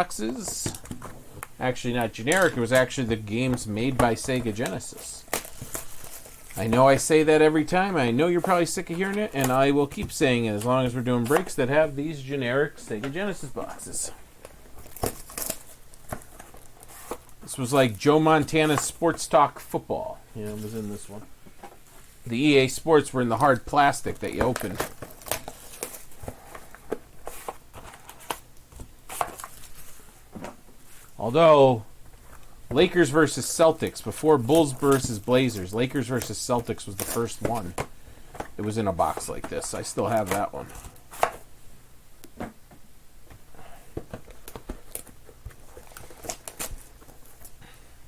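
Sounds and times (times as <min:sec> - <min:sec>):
cardboard boxes and foil packs handled: 0:00.0 - 0:41.5, 0:43.2 - 0:48.0.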